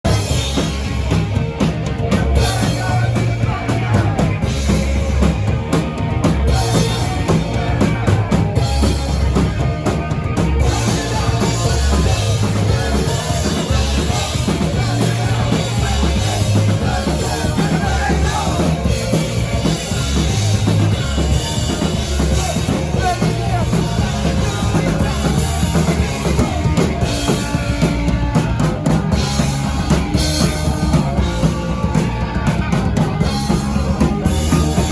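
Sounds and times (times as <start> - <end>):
live rock band playing: 0.0 - 34.9
bass drum: 0.1 - 34.9.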